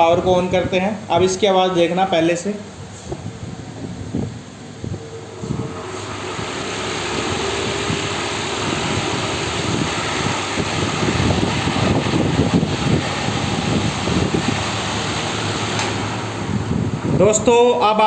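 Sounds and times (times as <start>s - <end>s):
fan air rushing: 0.0s - 18.0s.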